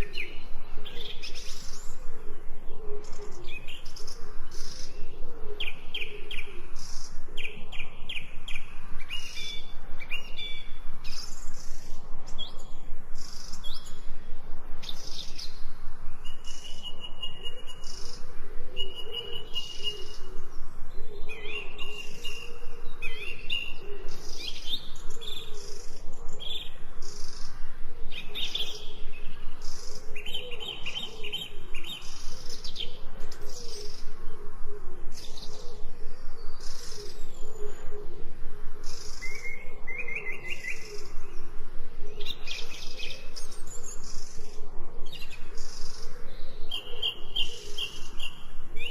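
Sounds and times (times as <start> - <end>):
songbirds chirping and trilling: 0.0 - 48.9.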